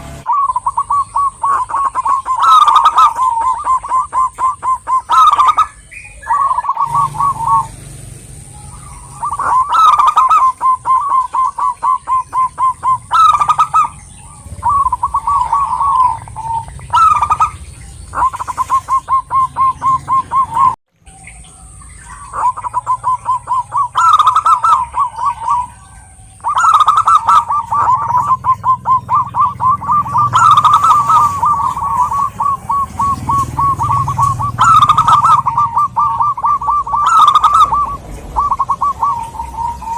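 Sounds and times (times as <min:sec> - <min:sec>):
doves cooing rapidly: 0:00.0 - 0:39.9.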